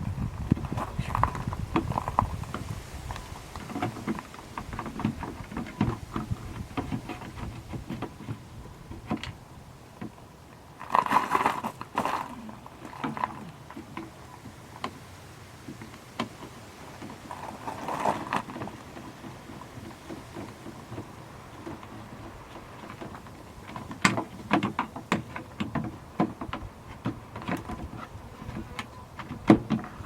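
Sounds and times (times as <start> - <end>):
rustling: 0.0 - 30.0.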